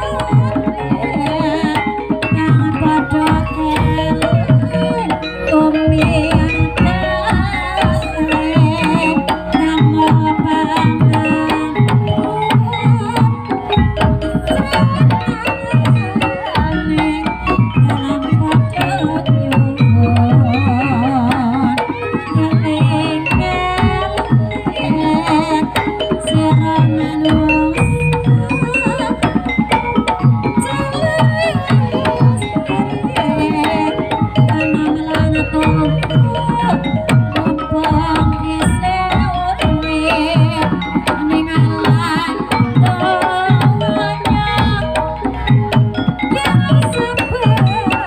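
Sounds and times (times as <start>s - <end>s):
tuned percussion tones: 0.0s - 48.0s.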